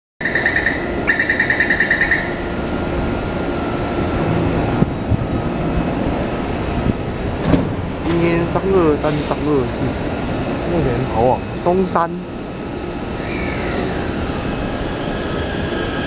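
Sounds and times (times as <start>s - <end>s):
train rumbling: 0.2s - 16.0s.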